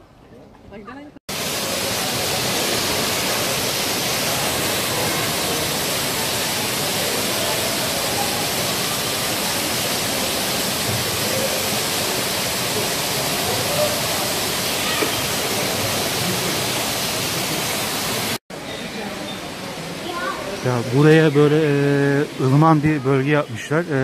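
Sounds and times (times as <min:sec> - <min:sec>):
rush of falling water: 0:01.3 - 0:24.0.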